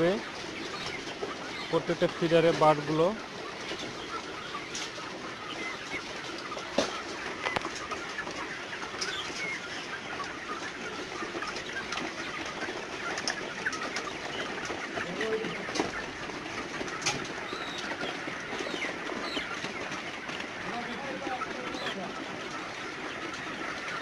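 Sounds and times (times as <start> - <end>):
chickens clucking and cheeping: 0.0 - 24.0.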